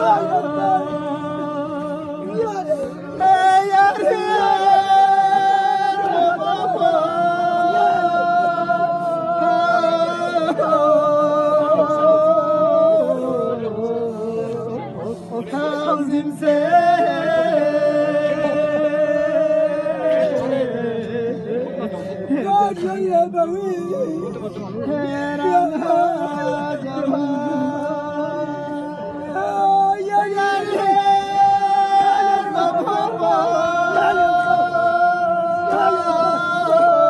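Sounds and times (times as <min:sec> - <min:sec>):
man chanting unaccompanied: 0:00.0 - 0:37.0.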